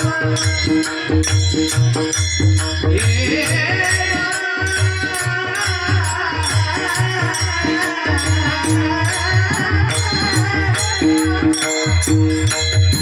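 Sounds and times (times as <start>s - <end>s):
hand cymbals jangling: 0.0s - 13.0s
sustained melodic tones: 0.0s - 13.0s.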